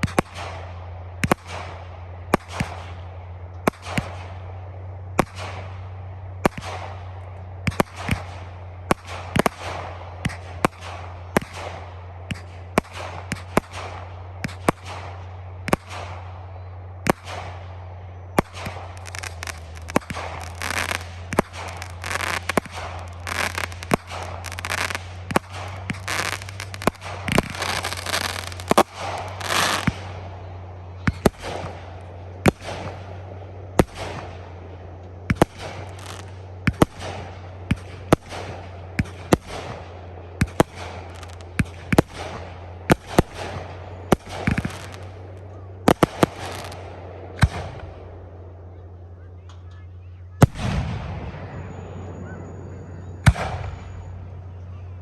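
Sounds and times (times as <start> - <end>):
firework bursts with crackling: 0.0 - 49.2, 49.9 - 54.4
low hum: 0.0 - 55.0.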